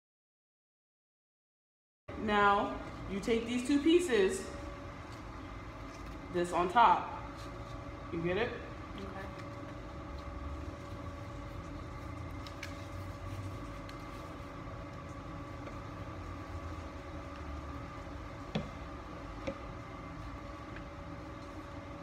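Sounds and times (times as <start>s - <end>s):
mechanical hum: 2.1s - 22.0s.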